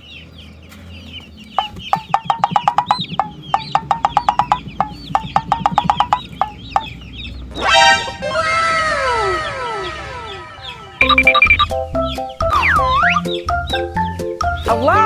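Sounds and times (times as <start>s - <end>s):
chickens clucking: 0.0s - 15.0s
high chick peeps: 0.0s - 15.0s.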